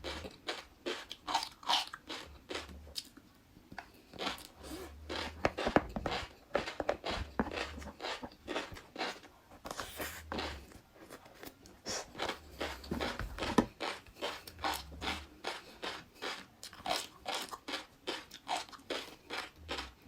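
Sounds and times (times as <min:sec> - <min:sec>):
chewing crunchy food: 0:00.0 - 0:20.0.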